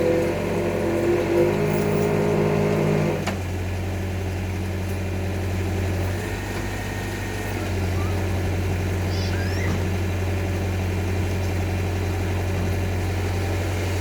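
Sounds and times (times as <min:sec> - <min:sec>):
machine engine hum: 0:00.0 - 0:14.0.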